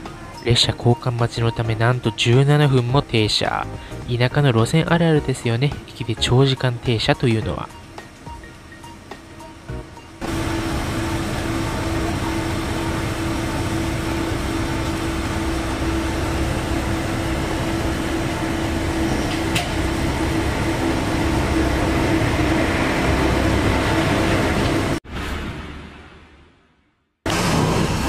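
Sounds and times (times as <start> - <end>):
diesel railcar engine droning: 0.0 - 25.0, 27.3 - 28.0.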